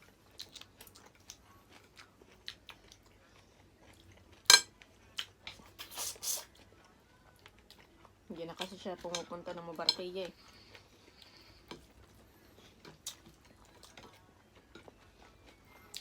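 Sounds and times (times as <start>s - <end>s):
chewing: 0.0s - 8.8s, 10.2s - 16.0s.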